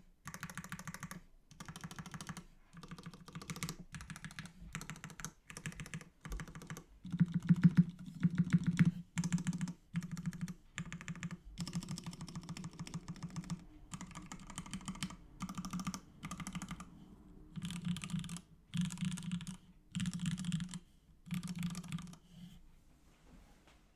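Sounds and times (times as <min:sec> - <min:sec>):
mechanical keyboard typing: 0:00.2 - 0:22.3.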